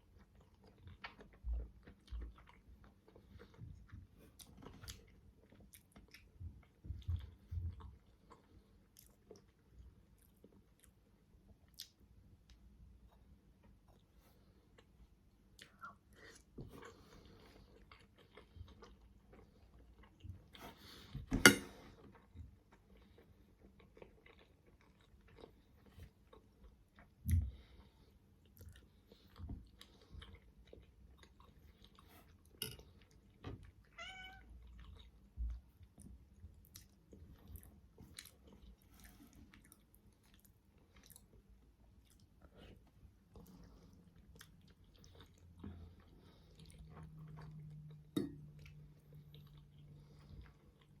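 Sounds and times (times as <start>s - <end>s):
chewing and wet mouth sounds: 0.0s - 51.0s.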